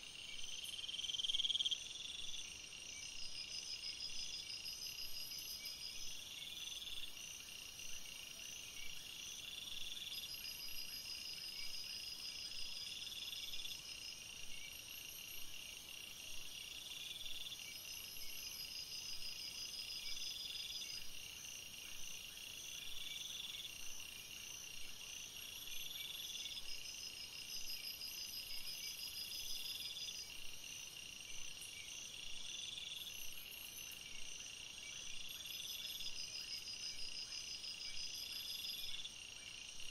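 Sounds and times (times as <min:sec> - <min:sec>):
pulsing insect and frog trills: 0:00.0 - 0:39.9.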